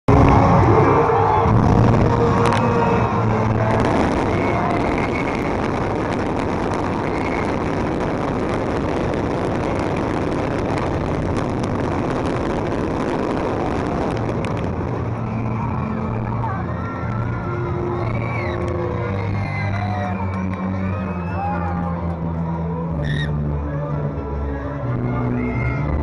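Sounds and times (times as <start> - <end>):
firework fountains hissing and crackling: 0.1 - 22.3.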